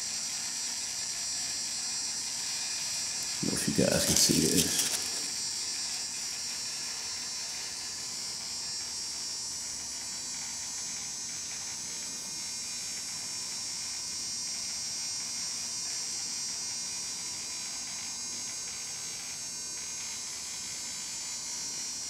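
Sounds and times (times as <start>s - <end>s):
electric buzz with whine: 0.0s - 22.0s.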